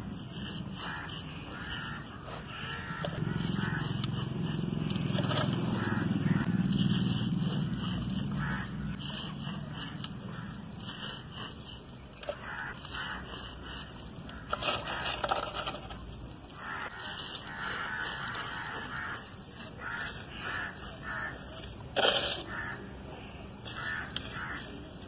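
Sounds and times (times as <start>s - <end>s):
charcoal crunching and grating by hand: 0.0s - 25.0s.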